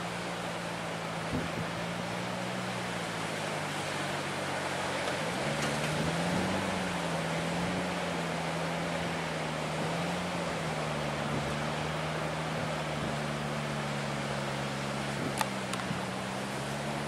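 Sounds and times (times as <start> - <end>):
truck engine running under load: 0.0 - 17.0.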